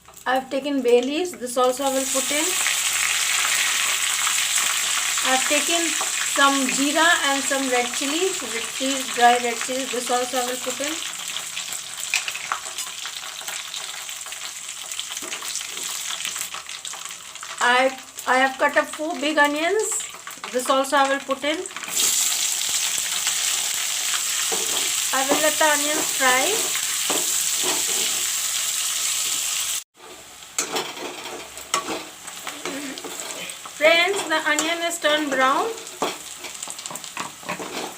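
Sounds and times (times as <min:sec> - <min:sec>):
spices sizzling in hot oil: 0:00.0 - 0:37.9.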